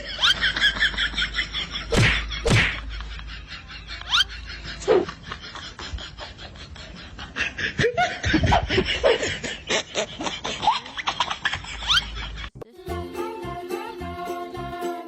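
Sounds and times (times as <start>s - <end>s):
people laughing: 0.0s - 12.6s.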